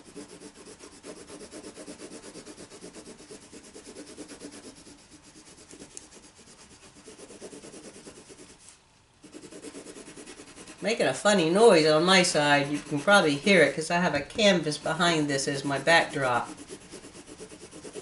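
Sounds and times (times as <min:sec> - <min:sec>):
pencil scratching on paper: 0:00.0 - 0:13.8, 0:14.5 - 0:18.0.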